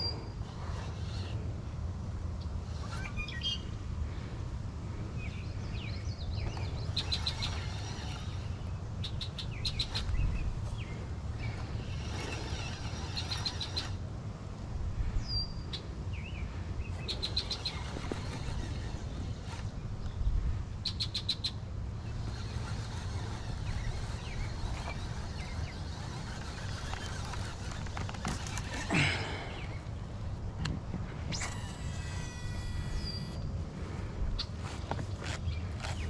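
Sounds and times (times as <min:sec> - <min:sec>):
songbirds singing and chirping: 0:00.0 - 0:14.1, 0:15.0 - 0:31.3, 0:32.1 - 0:36.0.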